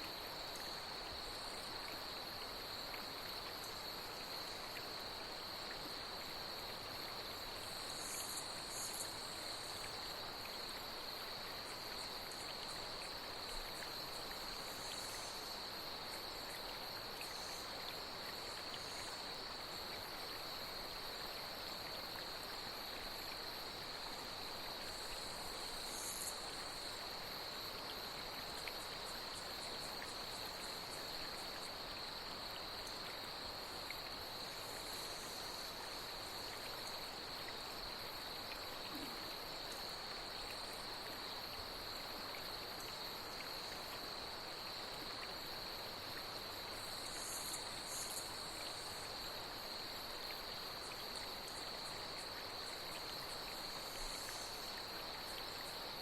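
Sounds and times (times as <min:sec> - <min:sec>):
flowing water: 0:00.0 - 0:56.0
night insects trilling: 0:00.0 - 0:56.0.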